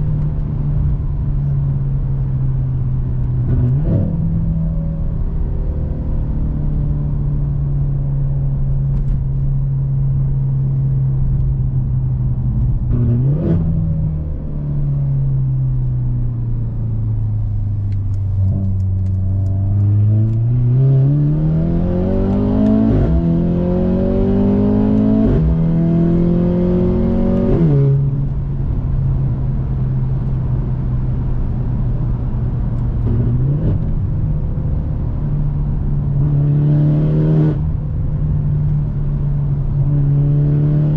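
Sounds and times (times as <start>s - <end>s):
car engine revving and accelerating: 2.5s - 11.1s, 12.1s - 15.8s, 16.4s - 40.9s.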